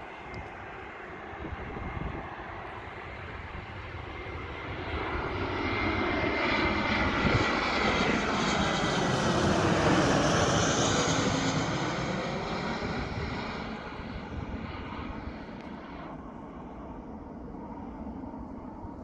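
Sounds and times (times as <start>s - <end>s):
high jet engine whine: 0.0s - 19.0s
jet airliner passing overhead: 0.0s - 19.0s.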